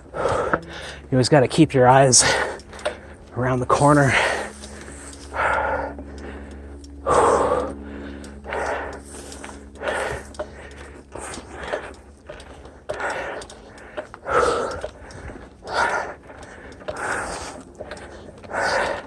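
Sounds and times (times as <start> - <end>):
person breathing hard: 0.0 - 1.1, 2.1 - 3.3, 3.9 - 19.0.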